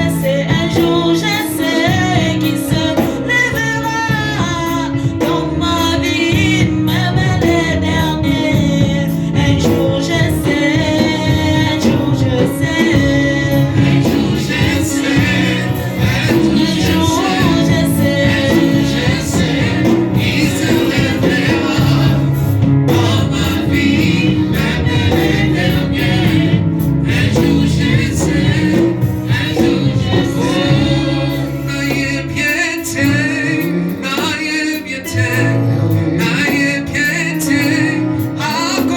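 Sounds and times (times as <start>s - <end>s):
gospel singers with band: 0.0s - 38.9s.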